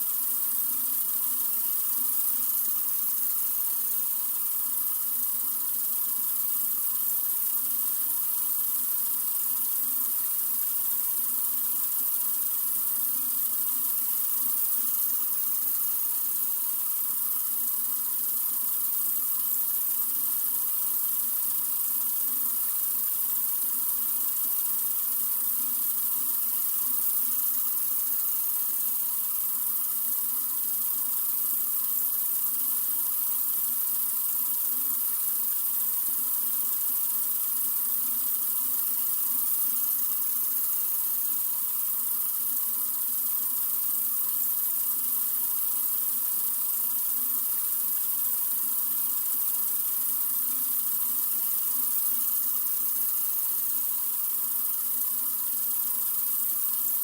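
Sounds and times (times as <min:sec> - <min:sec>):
sink faucet running: 0:00.0 - 0:57.0.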